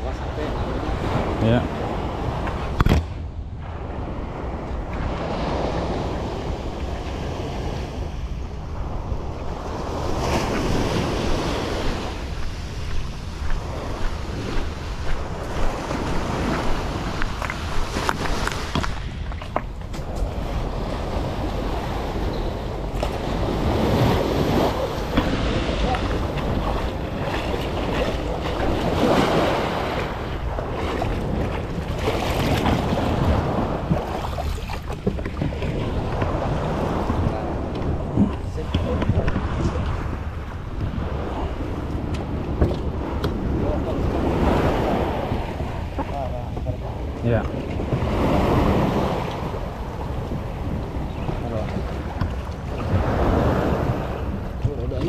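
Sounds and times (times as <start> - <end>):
wind rumbling on microphone: 0.0 - 55.0
small waves breaking on shore: 3.6 - 55.0.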